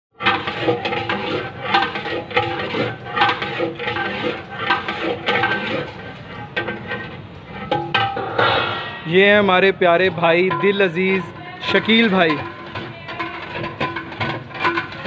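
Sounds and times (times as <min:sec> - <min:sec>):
metal ladle clanking in pot: 0:00.2 - 0:09.1, 0:10.0 - 0:15.0.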